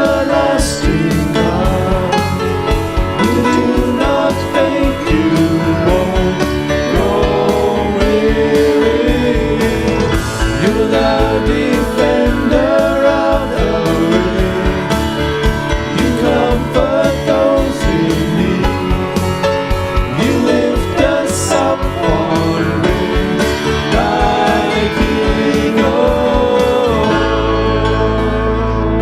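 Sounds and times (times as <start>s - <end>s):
guitar with steady beat: 0.0s - 29.0s
people singing worship song: 0.0s - 29.0s.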